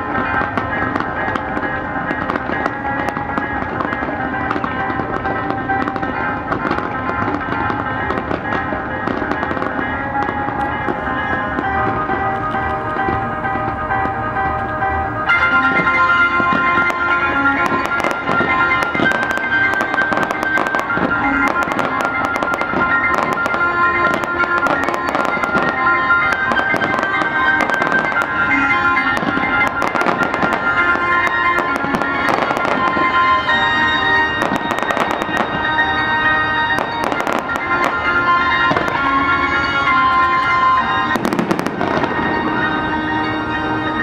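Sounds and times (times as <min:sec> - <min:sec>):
fireworks bursting and crackling: 0:00.0 - 0:44.0
music with sustained tones: 0:00.0 - 0:44.0.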